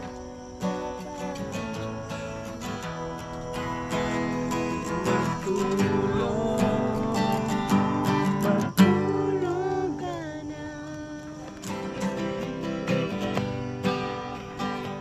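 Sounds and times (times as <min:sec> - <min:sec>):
person singing: 0:00.0 - 0:12.0
acoustic guitar strumming: 0:00.0 - 0:15.0.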